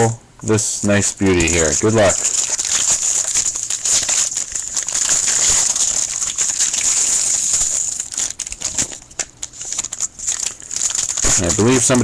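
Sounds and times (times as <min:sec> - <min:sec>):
wrapper crinkling: 0:00.8 - 0:12.0.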